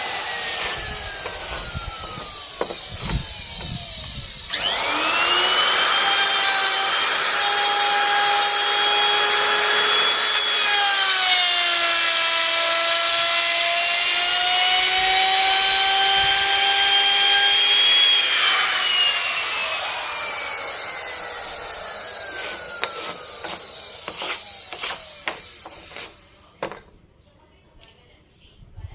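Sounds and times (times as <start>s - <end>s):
power tool cutting wood: 0.0s - 26.8s.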